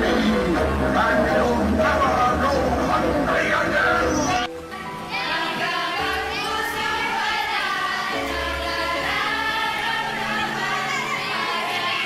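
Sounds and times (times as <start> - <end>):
young voices singing together: 0.0 - 12.0.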